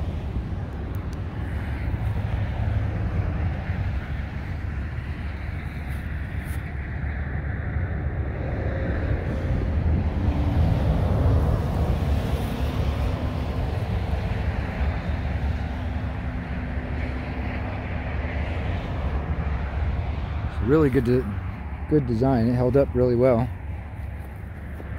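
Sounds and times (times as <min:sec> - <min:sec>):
road traffic passing: 0:00.0 - 0:24.9.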